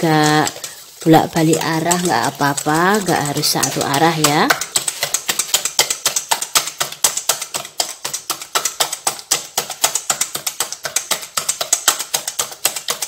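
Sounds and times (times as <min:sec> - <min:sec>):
wire whisk clicking in metal bowl: 0:00.0 - 0:13.0.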